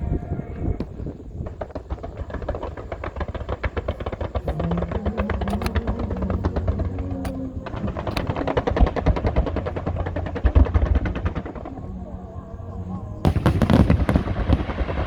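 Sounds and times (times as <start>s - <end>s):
deep continuous booming: 0.0s - 15.0s
fireworks crackling bangs: 0.0s - 15.0s.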